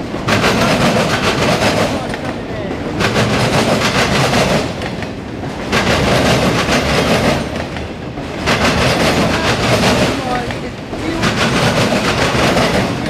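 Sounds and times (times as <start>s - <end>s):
freight train wheels clacking: 0.0s - 13.0s.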